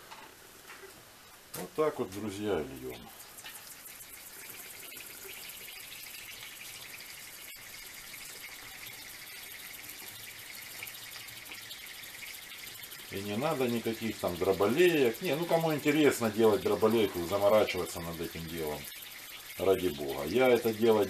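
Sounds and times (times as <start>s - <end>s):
molten metal sizzling in water: 1.4s - 21.0s.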